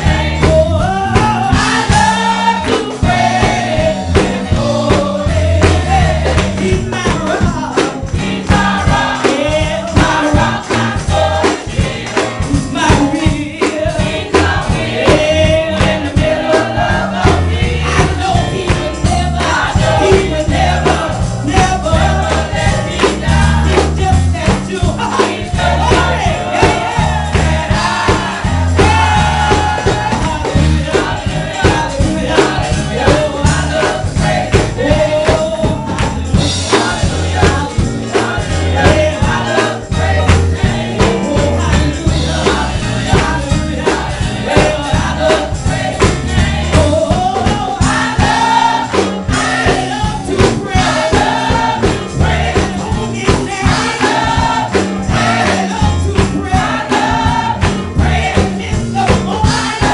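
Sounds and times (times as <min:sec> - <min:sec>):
low bass line: 0:00.0 - 0:59.9
rhythmic hand-clapping: 0:00.0 - 0:59.9
women singing gospel song: 0:00.0 - 0:59.9.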